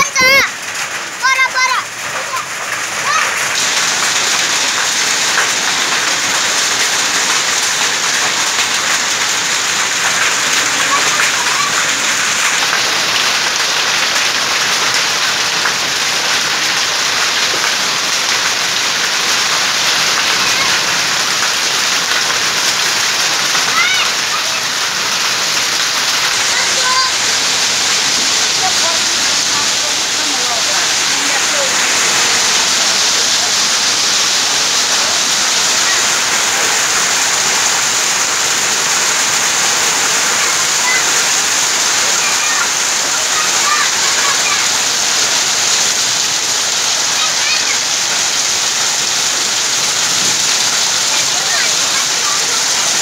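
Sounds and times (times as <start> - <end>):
heavy rain and hail pelting: 0.0 - 53.0.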